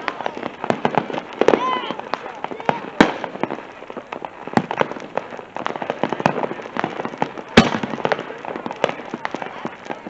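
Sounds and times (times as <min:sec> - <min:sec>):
firework bang: 0:00.0 - 0:10.0
fireworks crackling: 0:00.0 - 0:10.0.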